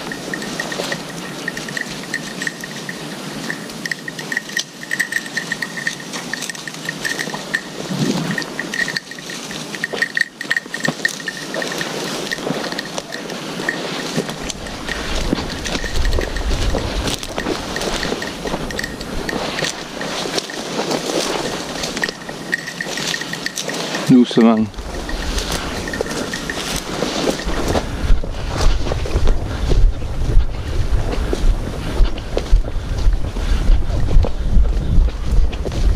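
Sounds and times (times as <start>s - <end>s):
small bell tinkling: 0.0s - 29.3s
footsteps through dry bracken: 0.0s - 35.9s
wind buffeting microphone: 0.0s - 35.9s.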